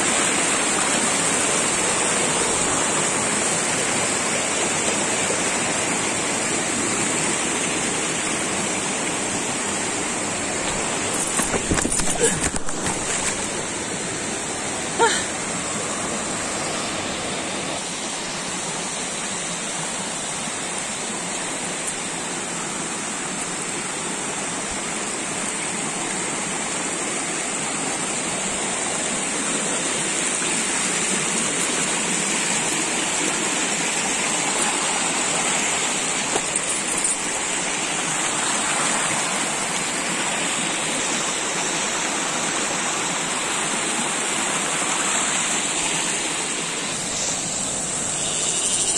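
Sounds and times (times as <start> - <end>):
stream rushing over stones: 0.0 - 48.9.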